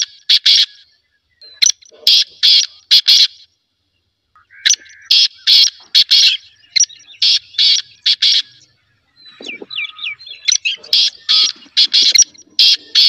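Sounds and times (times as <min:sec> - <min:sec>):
francolin calling harshly: 0:00.0 - 0:03.6, 0:04.4 - 0:13.0.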